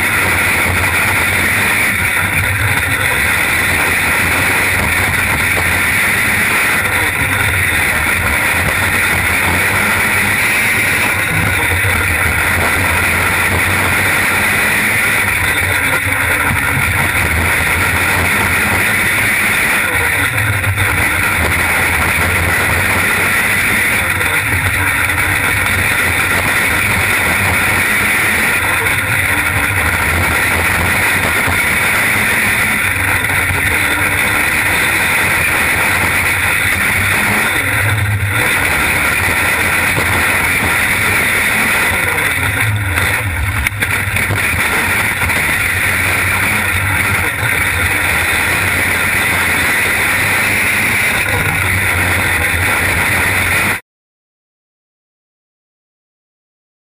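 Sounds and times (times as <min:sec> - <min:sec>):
loud racing car engine: 0:00.0 - 0:53.8.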